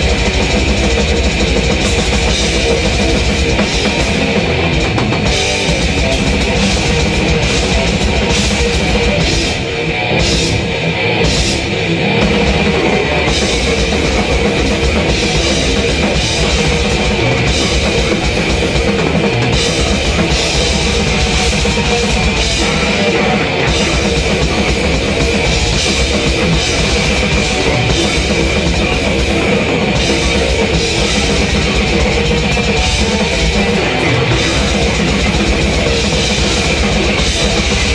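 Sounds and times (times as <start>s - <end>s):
drum kit played fast: 0.0s - 37.9s
heavy metal band: 0.0s - 37.9s.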